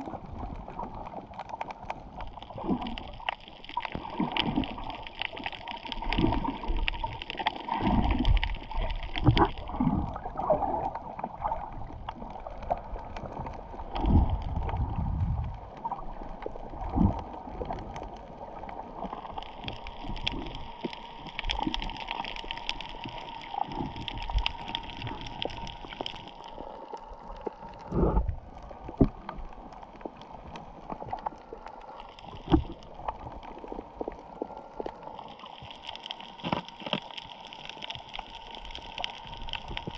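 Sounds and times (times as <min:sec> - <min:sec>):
muffled water sloshing underwater: 0:00.0 - 0:39.9.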